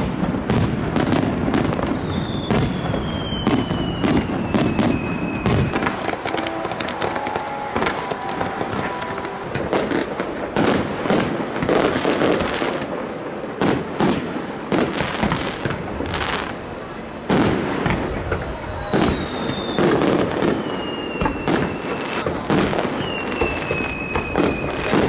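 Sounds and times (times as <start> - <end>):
falling fireworks whistles: 0.0 - 25.0
fireworks bangs: 0.0 - 25.0
fireworks crackling: 0.0 - 25.0.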